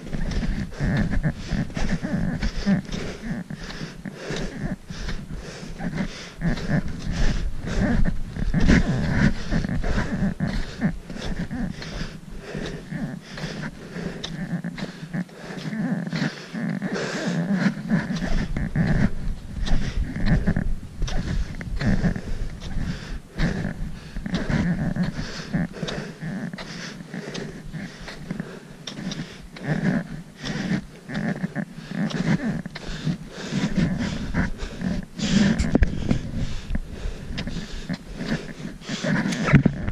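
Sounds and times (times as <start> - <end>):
breathing: 0.0 - 39.9.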